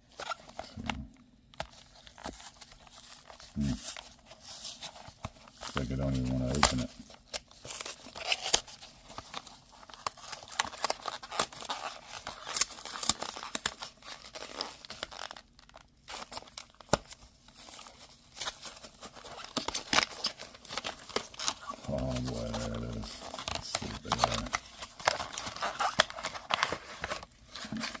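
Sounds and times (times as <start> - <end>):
packaging torn and crinkling: 1.5 - 28.0.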